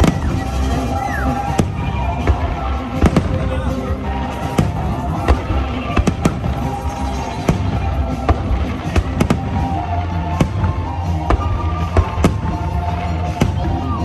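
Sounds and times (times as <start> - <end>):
fireworks sharp bangs: 0.0 - 14.0
music playing: 0.0 - 14.0.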